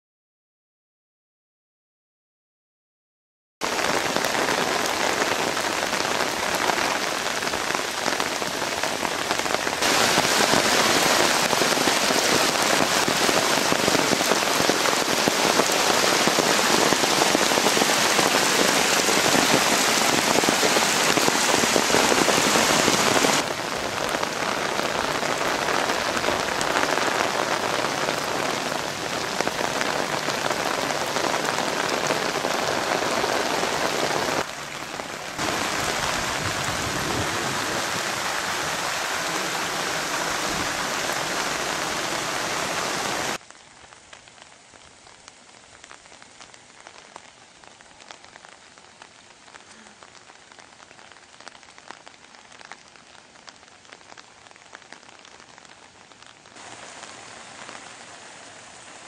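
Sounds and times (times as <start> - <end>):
rain falling on wet ground: 3.6 - 59.0.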